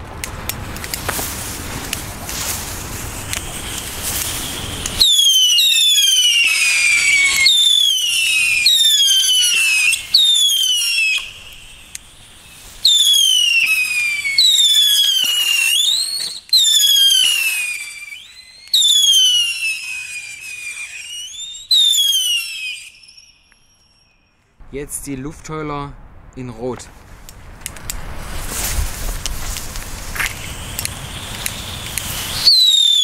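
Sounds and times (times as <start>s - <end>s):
fireworks howling: 0.0s - 33.0s.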